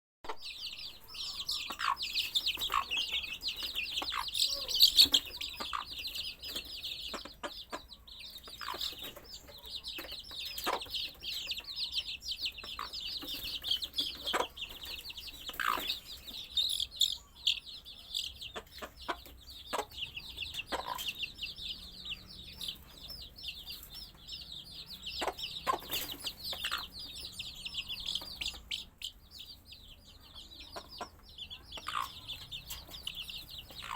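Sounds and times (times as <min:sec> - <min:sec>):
baby chicks peeping: 0:00.2 - 0:33.9.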